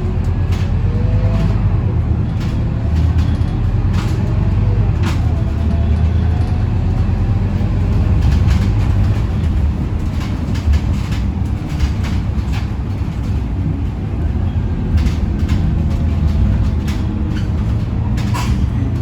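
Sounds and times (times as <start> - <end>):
bus engine drone: 0.0 - 19.0
rattles and knocks of bus body: 0.0 - 19.0.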